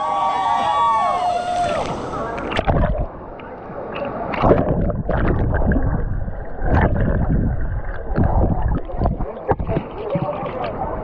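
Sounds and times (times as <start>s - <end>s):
water sloshing against camera: 1.6s - 11.0s.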